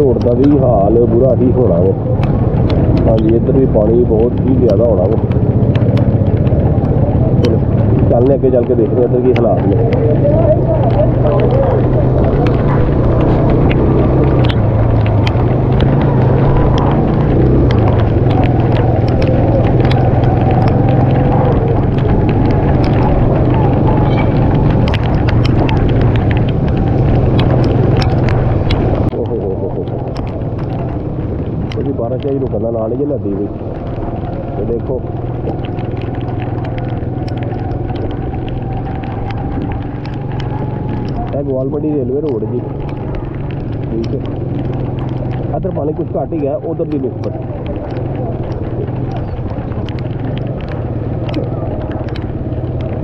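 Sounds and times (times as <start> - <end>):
motorcycle engine running: 0.0 - 53.0
sharp ticks: 0.0 - 53.0.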